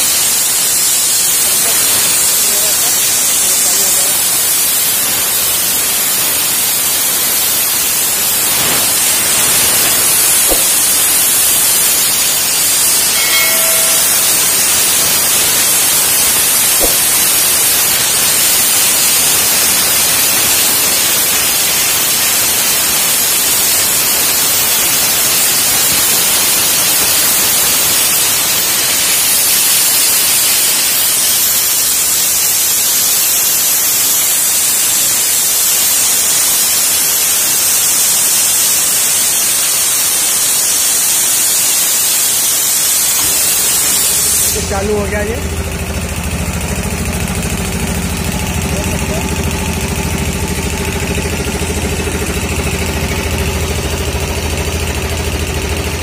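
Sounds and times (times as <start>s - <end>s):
compressed air hissing: 0.0s - 56.0s.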